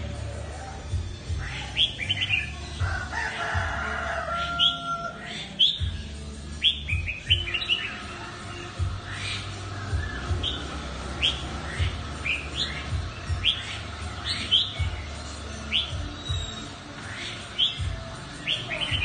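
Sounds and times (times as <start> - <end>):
bird singing whistled notes: 1.3 - 2.8, 4.5 - 19.0.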